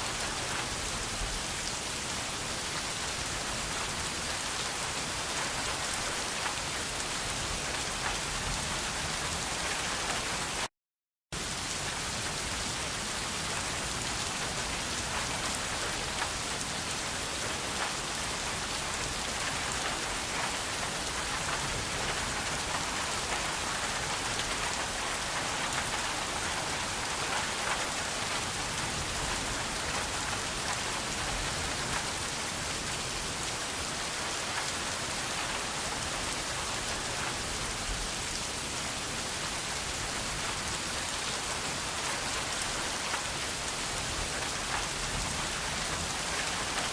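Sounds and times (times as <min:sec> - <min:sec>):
steady rain falling: 0:00.0 - 0:10.7, 0:11.4 - 0:46.9.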